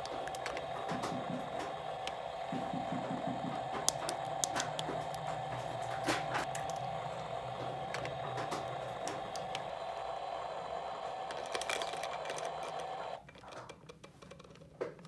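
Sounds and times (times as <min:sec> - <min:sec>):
background hum: 0:00.0 - 0:13.7
plastic toy pieces clicking: 0:00.0 - 0:15.0.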